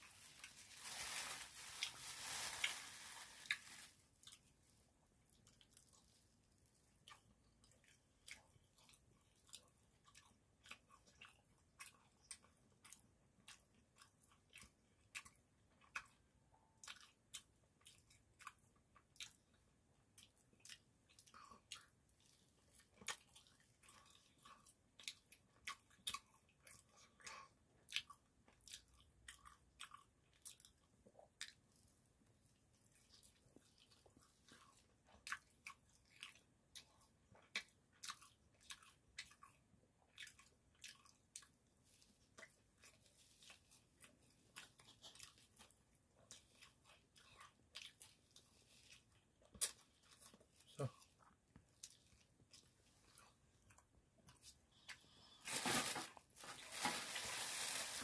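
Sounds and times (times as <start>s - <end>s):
chewing and biting: 5.2s - 55.1s.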